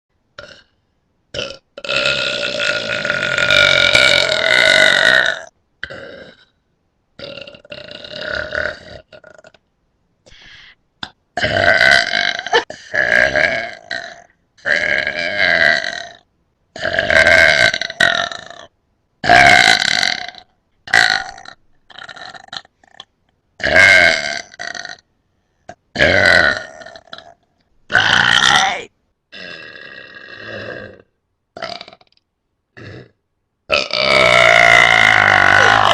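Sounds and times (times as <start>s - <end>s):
person belching loudly: 0.4s - 0.7s, 1.3s - 6.6s, 7.2s - 9.6s, 11.0s - 16.2s, 16.8s - 25.0s, 25.7s - 35.9s.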